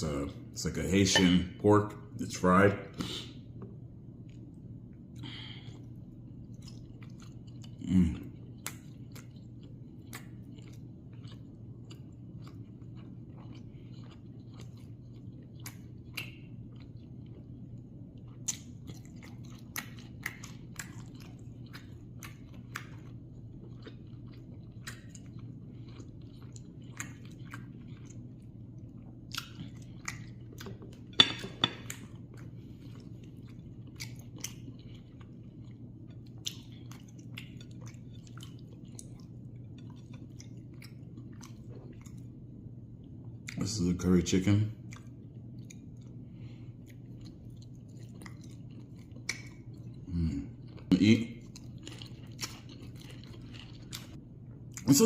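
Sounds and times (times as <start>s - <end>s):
close chewing and biting: 5.2s - 31.2s, 31.8s - 42.4s, 46.8s - 54.9s.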